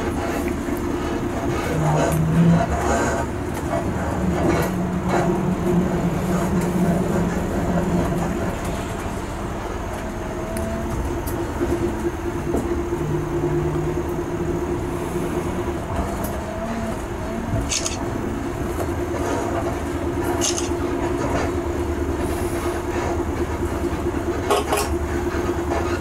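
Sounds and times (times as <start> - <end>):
rolling road noise: 0.0 - 26.0
vehicle engine hum: 0.0 - 26.0.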